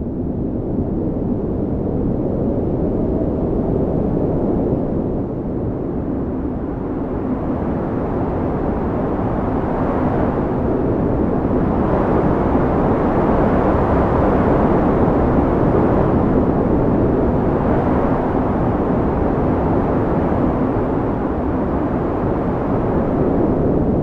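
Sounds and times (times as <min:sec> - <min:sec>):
strong wind rushing: 0:00.0 - 0:24.0.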